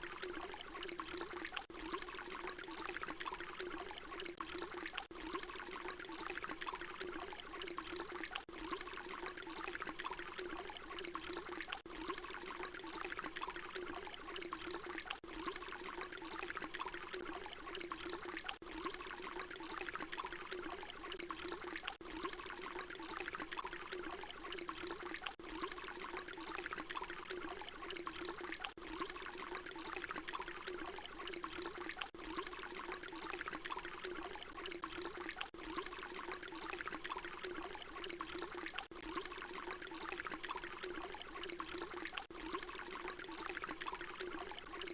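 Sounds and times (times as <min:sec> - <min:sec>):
water pouring in a stream: 0:00.0 - 0:44.9.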